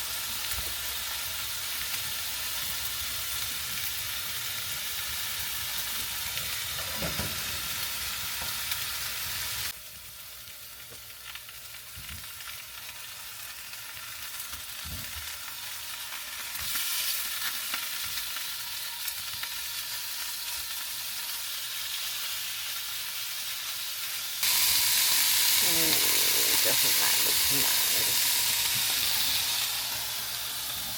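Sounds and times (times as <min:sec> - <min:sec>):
steak sizzling in a pan: 0:00.0 - 0:30.9.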